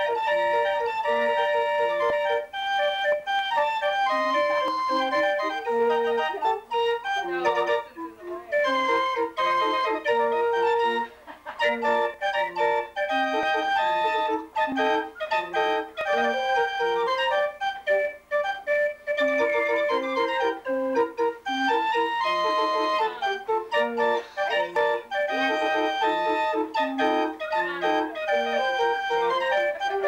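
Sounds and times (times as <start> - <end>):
barrel organ playing a tune: 0.0 - 30.0.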